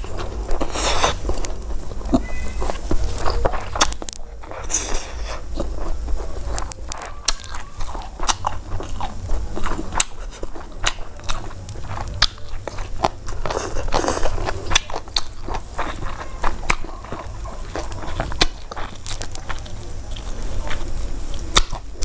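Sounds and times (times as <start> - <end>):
wet chewing and crunching: 0.0 - 22.0.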